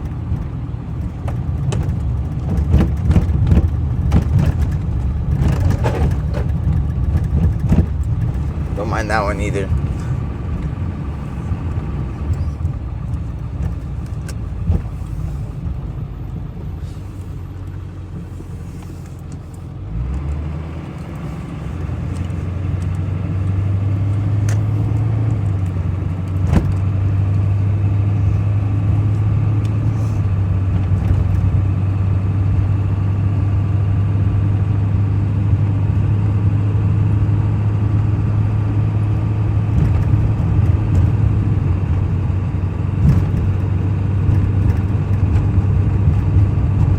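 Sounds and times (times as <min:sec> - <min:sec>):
truck engine and road rumble: 0:00.0 - 0:46.9.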